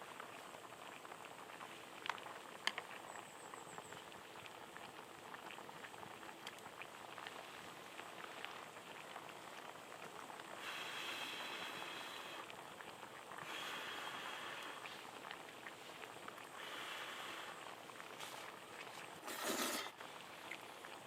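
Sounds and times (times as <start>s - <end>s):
broth bubbling in a pot: 0.0s - 21.0s.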